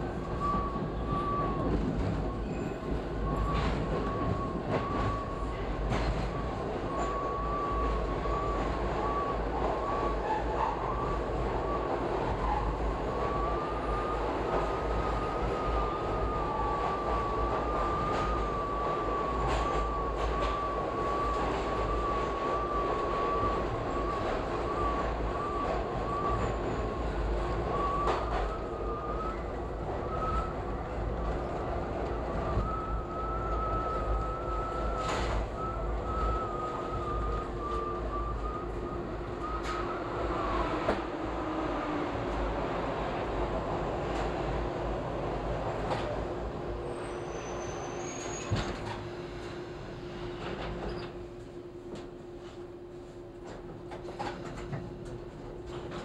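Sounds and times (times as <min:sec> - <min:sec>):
subway train rumbling in tunnel: 0:00.0 - 0:56.0.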